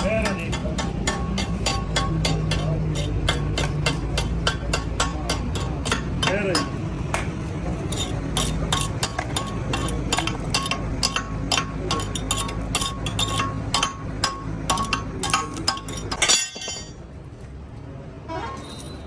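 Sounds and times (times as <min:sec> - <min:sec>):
hammer striking steel: 0:00.0 - 0:17.0.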